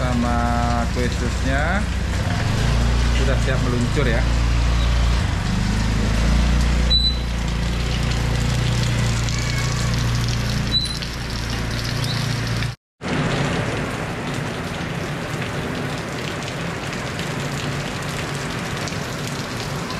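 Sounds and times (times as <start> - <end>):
heavy rain: 0.0 - 19.9.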